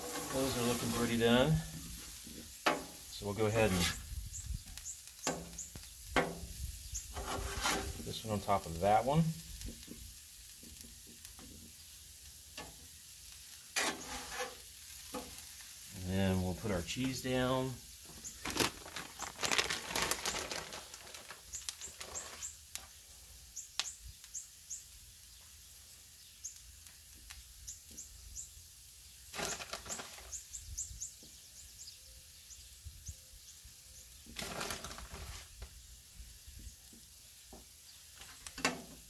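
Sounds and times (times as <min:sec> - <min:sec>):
hot griddle sizzling: 0:00.0 - 0:39.0
small birds chirping: 0:00.3 - 0:07.3, 0:08.0 - 0:38.6.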